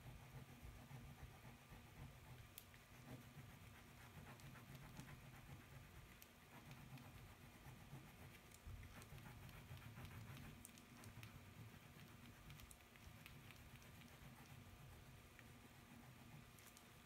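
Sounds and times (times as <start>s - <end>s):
colour scratching on paper: 0.0s - 17.0s
low steady hum: 0.0s - 17.0s.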